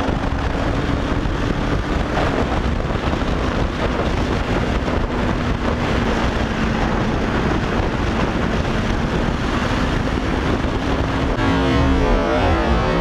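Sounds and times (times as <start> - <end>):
motorcycle engine humming: 0.0 - 13.0
wind rushing over microphone: 0.0 - 13.0.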